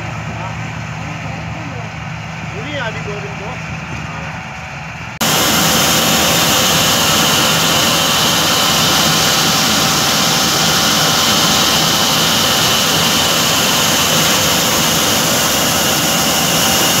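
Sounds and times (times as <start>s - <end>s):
combine harvester drone: 0.0s - 17.0s
high mechanical whine: 0.0s - 17.0s.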